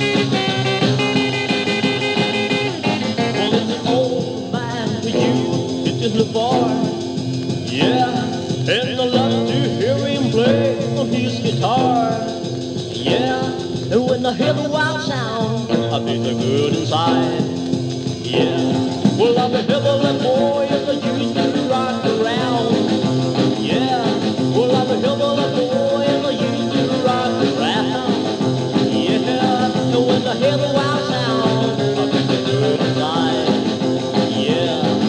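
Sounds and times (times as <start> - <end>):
guitar lead with sliding notes: 0.0 - 35.0
rockabilly band beat: 0.0 - 35.0.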